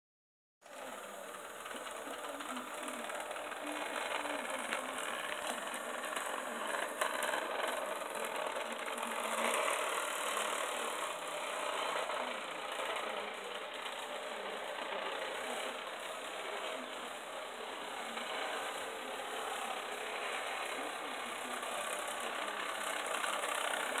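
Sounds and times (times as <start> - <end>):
electric motor whirring: 0.7 - 24.0
wheels rattling over rails: 0.7 - 24.0.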